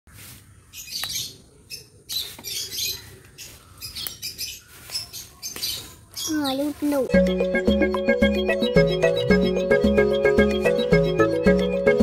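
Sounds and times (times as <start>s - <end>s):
lovebirds chirping: 0.1s - 12.0s.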